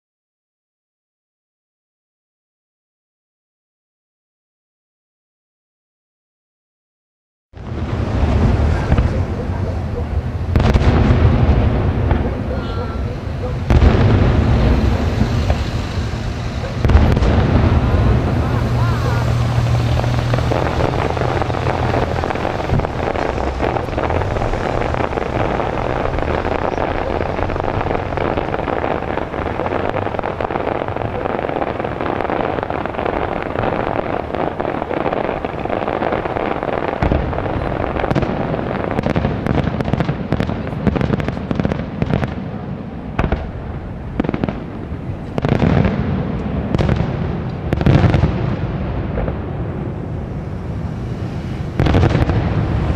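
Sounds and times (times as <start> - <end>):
fireworks bursting: 7.6 - 52.9
sharp firework bangs: 7.6 - 52.9.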